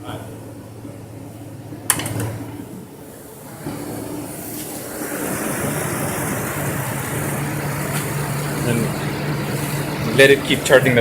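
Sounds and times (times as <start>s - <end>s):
car engine starting and running: 1.7s - 11.0s.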